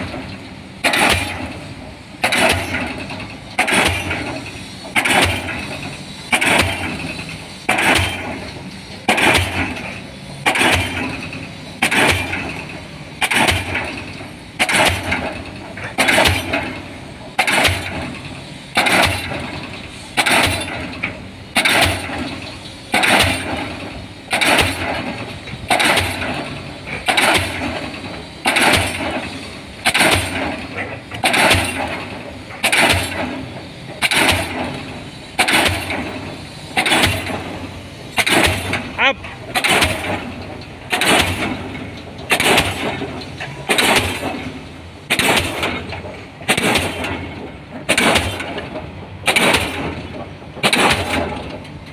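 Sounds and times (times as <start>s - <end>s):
pile hammer blows: 0.0s - 1.6s, 2.2s - 16.8s, 17.4s - 37.6s, 38.2s - 51.9s.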